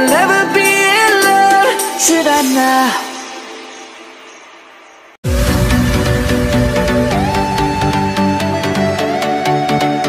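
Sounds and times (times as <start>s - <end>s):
electronic music with synth: 0.0s - 10.0s.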